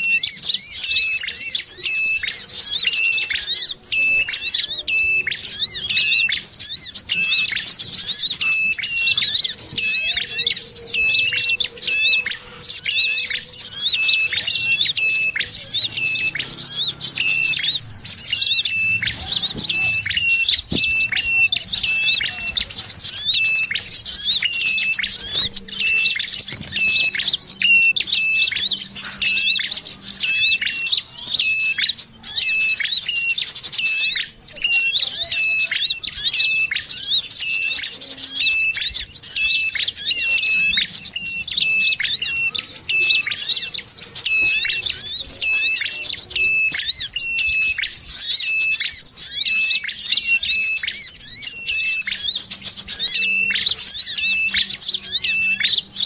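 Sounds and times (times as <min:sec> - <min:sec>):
songbird twittering: 0:00.0 - 0:56.0.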